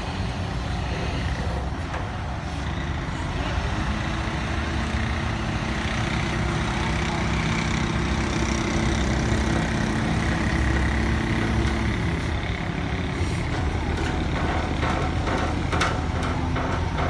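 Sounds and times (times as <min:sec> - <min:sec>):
diesel engine running: 0:00.1 - 0:17.0.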